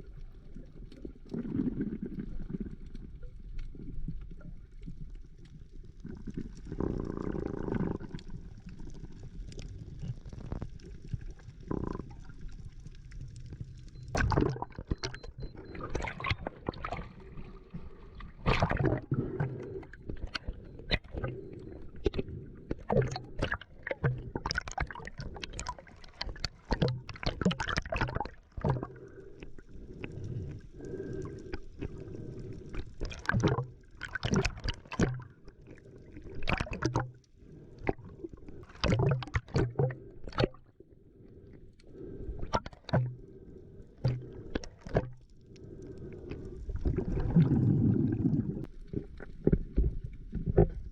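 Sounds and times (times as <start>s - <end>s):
water splashing and gurgling: 0.0s - 40.9s, 42.0s - 50.9s.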